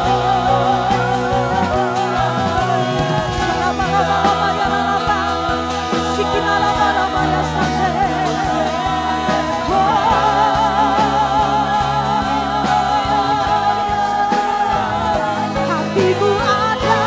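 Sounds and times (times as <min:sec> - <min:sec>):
slow worship band music: 0:00.0 - 0:17.0.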